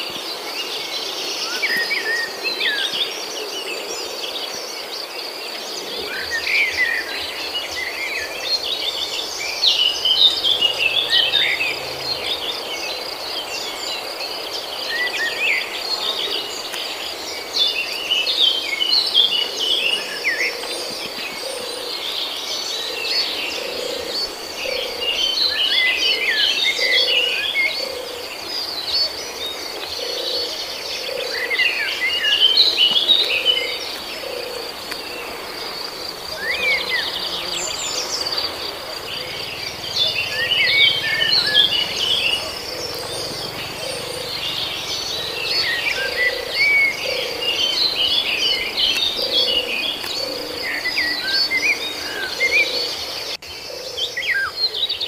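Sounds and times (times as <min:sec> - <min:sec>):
birds chirping: 0:05.5 - 0:55.0.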